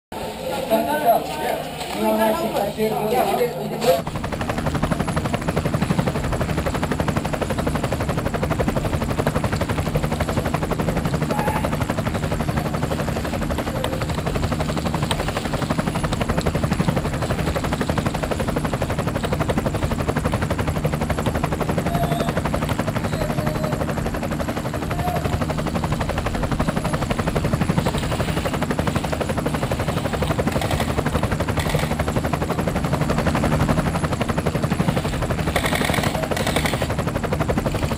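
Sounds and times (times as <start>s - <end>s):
pulsing mechanical drone: 0.2s - 37.9s.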